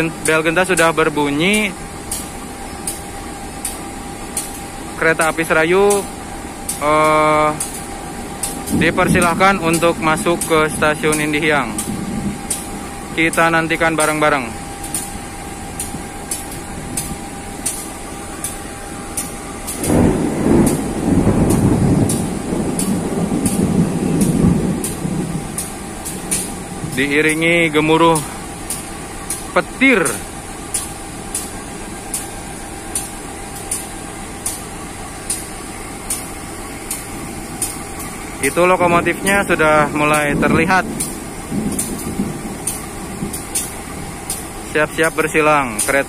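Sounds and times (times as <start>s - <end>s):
diesel locomotive idling: 0.0s - 46.0s
thunder rumbling: 6.2s - 45.8s.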